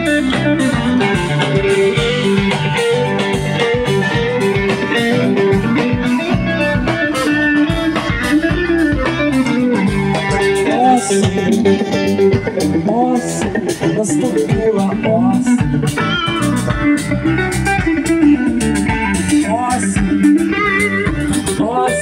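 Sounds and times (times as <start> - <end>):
bass guitar: 0.0 - 22.0
electric guitars: 0.0 - 22.0
steady drum beat: 0.0 - 22.0.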